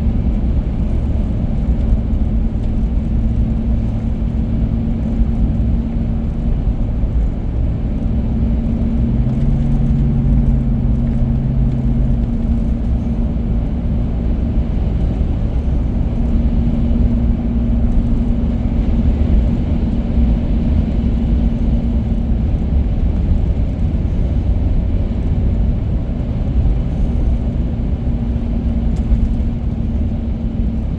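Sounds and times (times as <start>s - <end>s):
car road and engine rumble: 0.0s - 30.9s
low hum: 0.0s - 30.9s.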